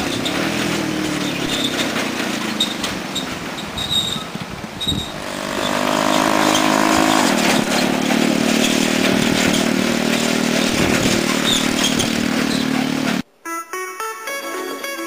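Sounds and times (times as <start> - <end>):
small engine running: 0.0 - 13.2.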